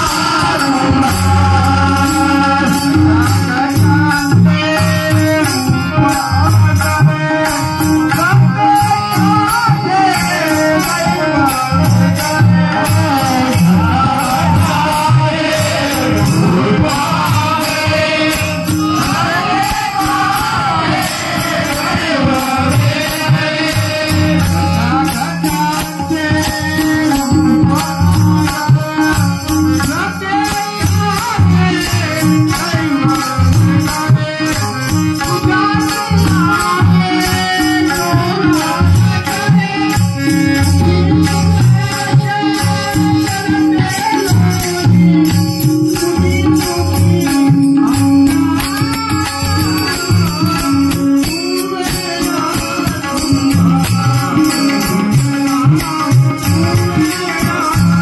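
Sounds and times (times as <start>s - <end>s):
jingling hand percussion: 0.0s - 58.0s
man singing: 0.0s - 58.0s
tabla strokes: 0.0s - 58.0s.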